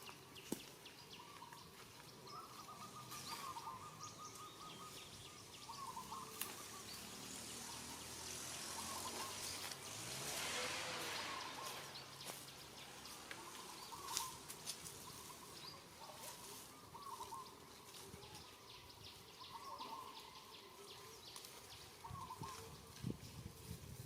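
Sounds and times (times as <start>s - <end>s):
low outdoor background: 0.0s - 24.0s.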